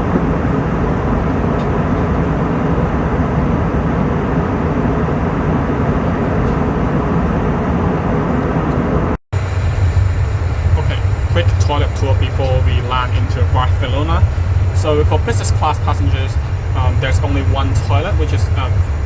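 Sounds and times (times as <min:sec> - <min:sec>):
airplane cabin engine hum: 0:00.0 - 0:19.0.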